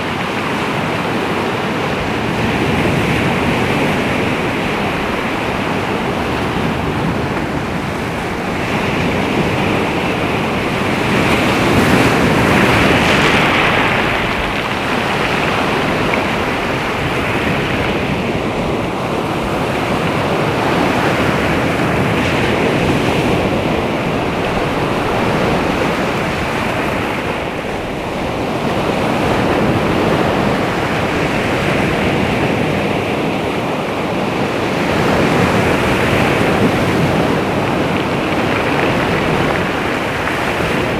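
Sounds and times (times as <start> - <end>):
sea waves washing onto shore: 0.0 - 40.9.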